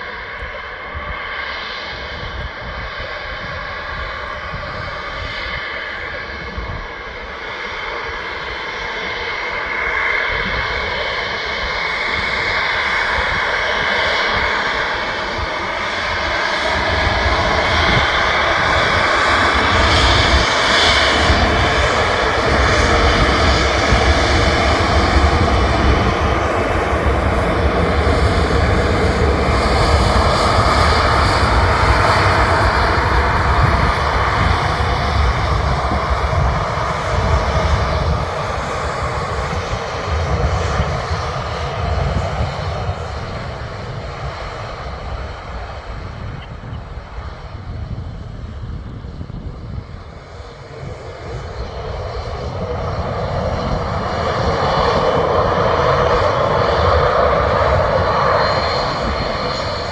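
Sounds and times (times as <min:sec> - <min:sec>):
jet engines at takeoff: 0:00.0 - 0:59.9.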